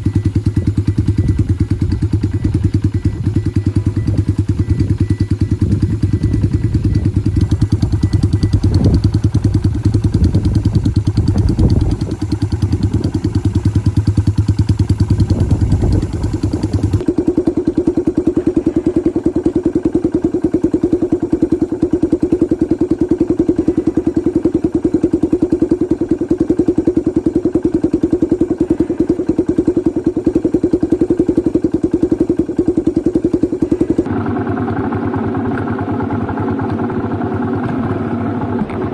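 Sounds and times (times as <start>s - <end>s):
engine knocks: 0.0s - 38.9s
motorcycle engine running: 0.0s - 38.9s.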